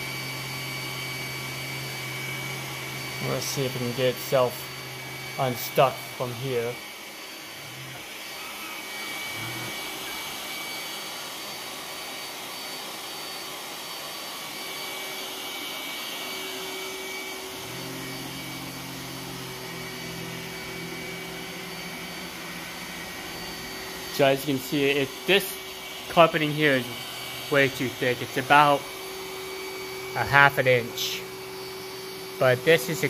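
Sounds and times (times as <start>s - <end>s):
robot vacuum whirring: 0.0s - 33.0s.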